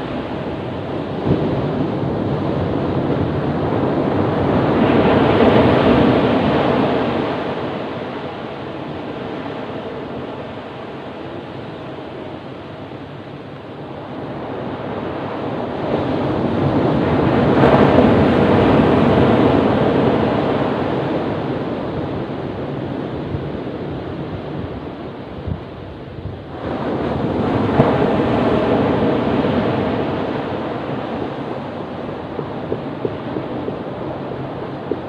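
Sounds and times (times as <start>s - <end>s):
ocean waves on a beach: 0.0s - 35.0s.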